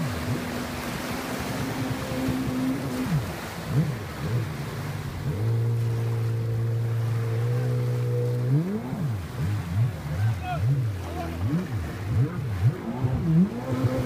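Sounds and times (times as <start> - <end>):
jet ski engine droning: 0.0 - 14.0
waves washing: 0.0 - 14.0.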